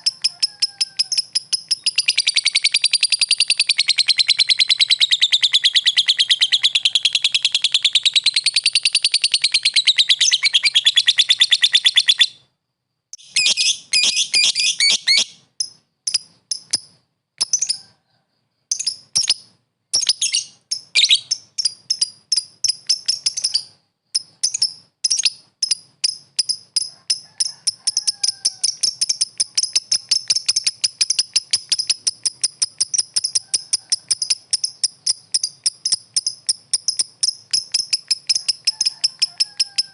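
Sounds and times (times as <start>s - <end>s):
bird shrill trill: 0.0s - 12.4s, 13.2s - 15.4s, 18.8s - 39.9s
bird sharp chirps: 0.0s - 12.5s, 13.2s - 17.9s, 18.7s - 26.9s, 28.0s - 39.8s.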